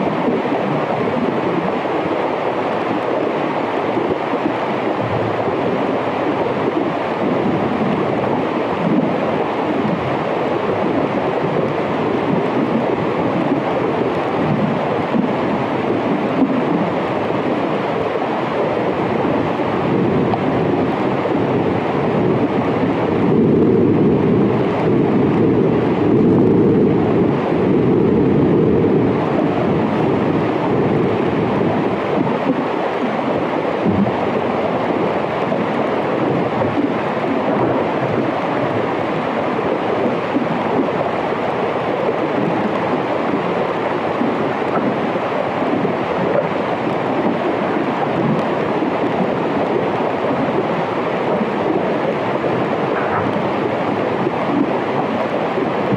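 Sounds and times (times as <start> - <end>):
underwater melting glacier noise: 0.0 - 55.9.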